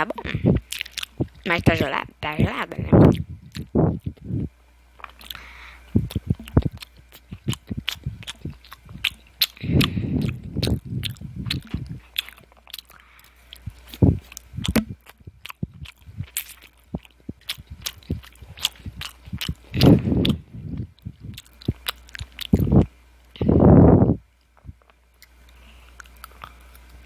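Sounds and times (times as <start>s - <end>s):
wet mouth chewing: 0.0s - 1.5s, 2.9s - 27.0s.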